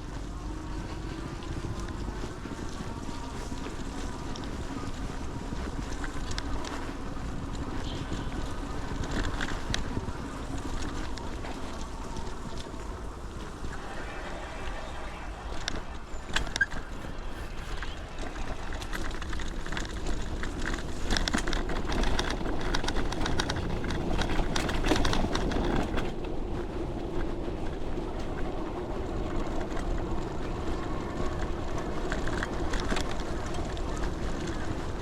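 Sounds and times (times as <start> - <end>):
small rattles and clicks: 0.0 - 14.2, 14.8 - 35.0
steady hum: 0.0 - 32.1
wind on microphone: 0.0 - 35.0.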